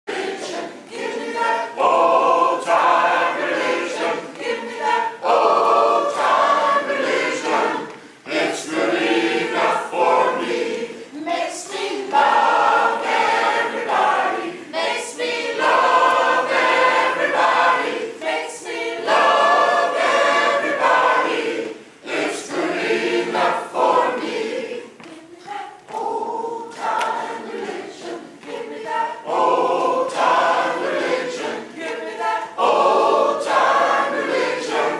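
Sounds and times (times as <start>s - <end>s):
mixed choir singing: 0.0s - 34.9s.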